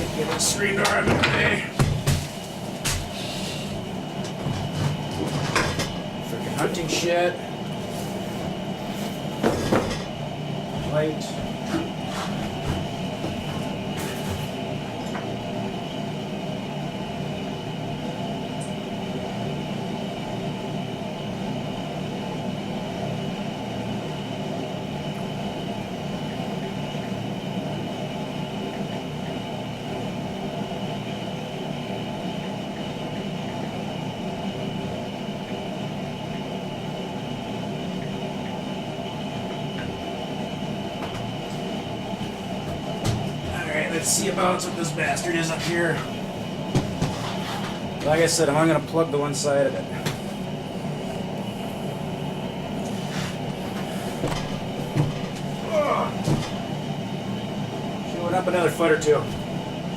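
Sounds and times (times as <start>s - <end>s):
machine drone: 0.0s - 59.9s.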